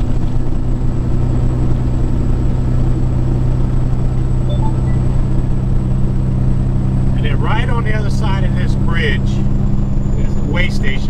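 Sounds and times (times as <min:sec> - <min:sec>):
road and tyre rumble: 0:00.0 - 0:11.0
truck engine drone: 0:00.0 - 0:11.0.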